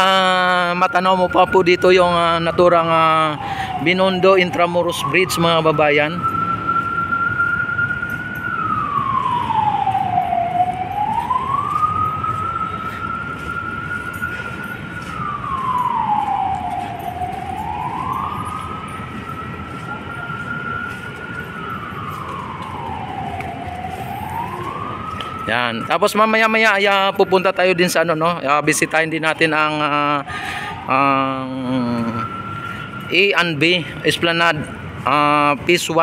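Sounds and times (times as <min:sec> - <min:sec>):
background noise: 0:00.0 - 0:36.0
siren wailing: 0:00.0 - 0:36.0.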